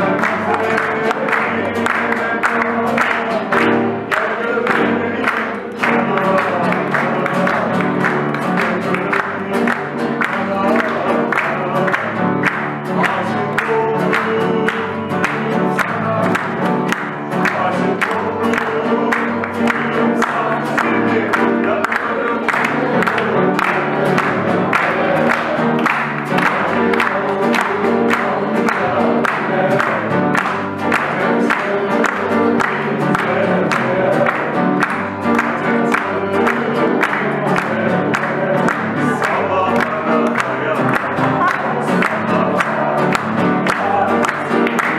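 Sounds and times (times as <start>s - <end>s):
acoustic guitar: 0.0s - 44.9s
audience clapping in time: 0.0s - 44.9s
people singing: 0.0s - 44.9s
upright piano: 0.0s - 44.9s.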